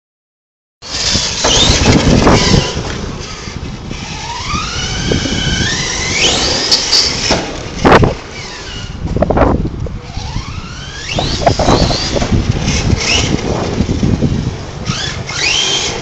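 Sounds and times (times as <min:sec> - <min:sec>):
tyres scrubbing on asphalt: 0:00.8 - 0:09.1, 0:10.0 - 0:16.0
electric motor whine: 0:00.8 - 0:09.2, 0:10.0 - 0:16.0.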